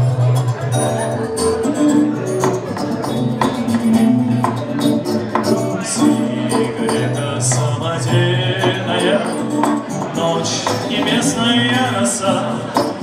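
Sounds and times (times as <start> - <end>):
instrumental music with beat: 0.0 - 13.0.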